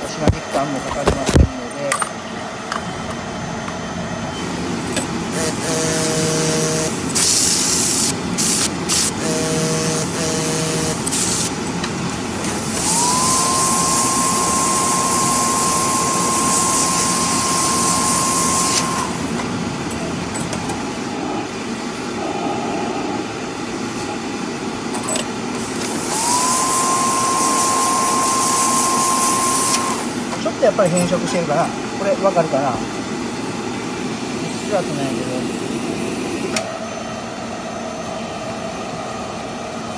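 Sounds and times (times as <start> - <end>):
machine whine: 0.0 - 39.9.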